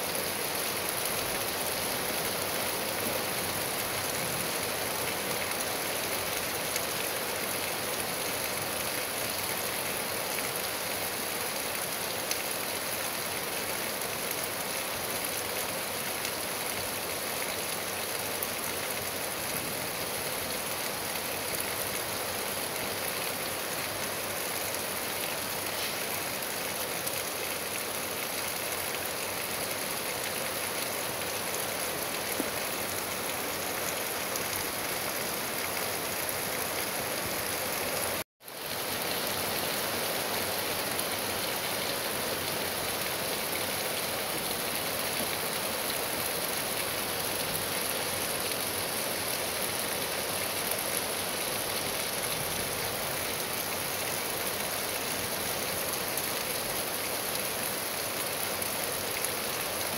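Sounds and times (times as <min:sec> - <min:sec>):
rain on grass and trees: 0:00.0 - 0:59.9.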